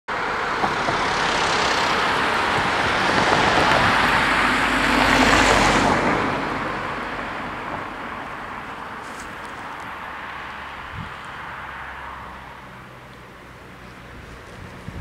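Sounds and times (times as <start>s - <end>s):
vehicles driving past: 0.1s - 15.0s.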